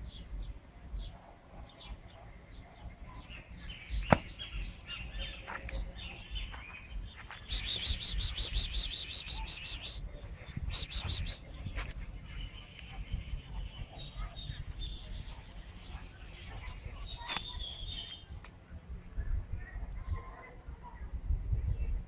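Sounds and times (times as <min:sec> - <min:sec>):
birds chirping: 0:00.0 - 0:20.4.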